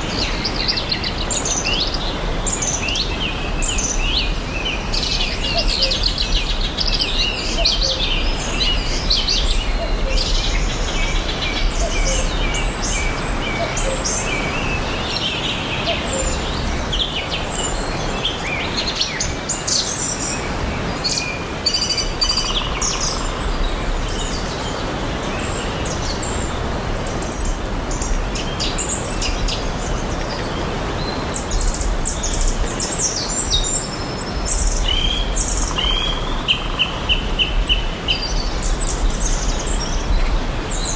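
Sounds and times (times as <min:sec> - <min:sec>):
songbirds chirping and singing: 0:00.0 - 0:40.9.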